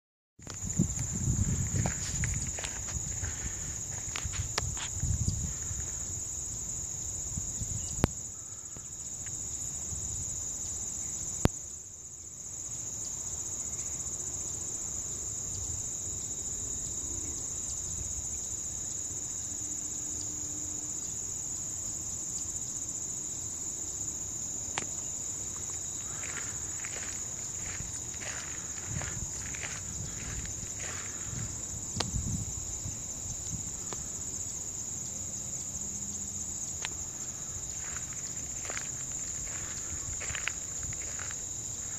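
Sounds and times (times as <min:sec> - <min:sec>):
insects chorus: 0:00.4 - 0:41.9.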